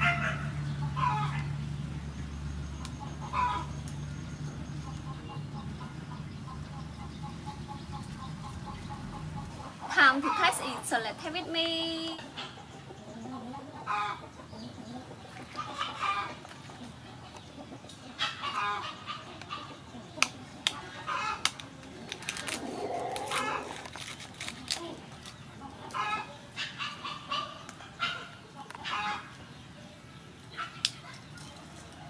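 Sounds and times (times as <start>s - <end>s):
chickens clucking: 0.0s - 2.0s, 2.7s - 32.0s.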